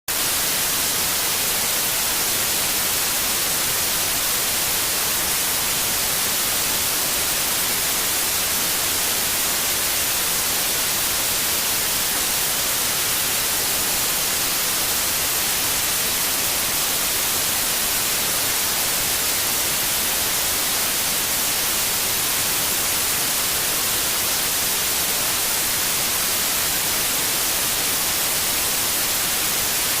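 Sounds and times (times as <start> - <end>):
white noise hiss: 0.1 - 30.0.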